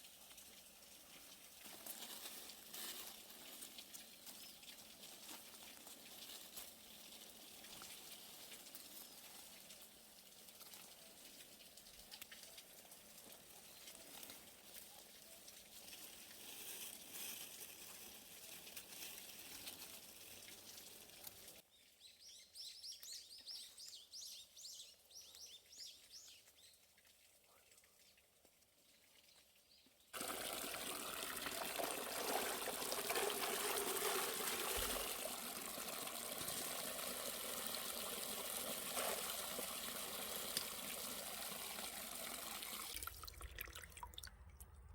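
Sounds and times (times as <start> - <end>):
water running and splashing: 0.0 - 21.6, 26.5 - 44.3.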